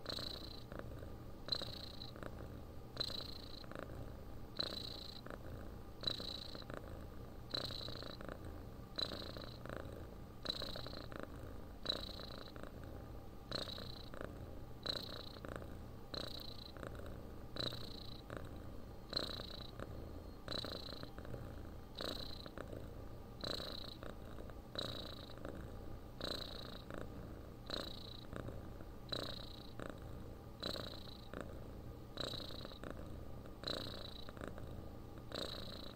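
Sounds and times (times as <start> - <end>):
cat snoring with whistle: 0.0 - 4.0, 4.6 - 12.9, 13.5 - 31.6, 32.2 - 35.9
cat purring: 0.0 - 35.9.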